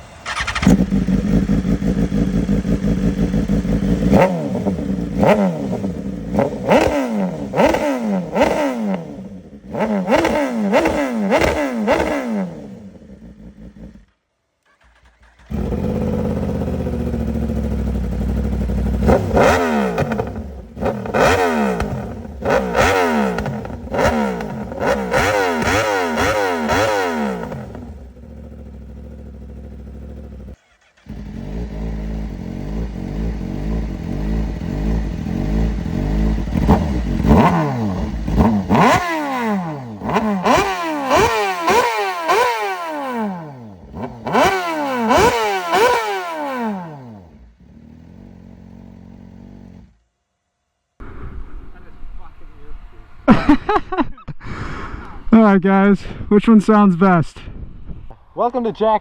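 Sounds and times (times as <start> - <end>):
superbike engines revving: 0.2 - 14.1, 14.8 - 50.0.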